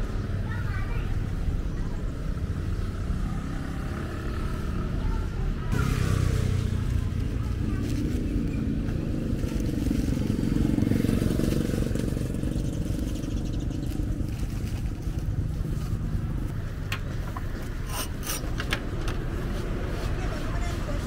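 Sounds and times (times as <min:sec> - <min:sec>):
street traffic: 0:00.0 - 0:21.0
vehicle engine running nearby: 0:00.0 - 0:21.0.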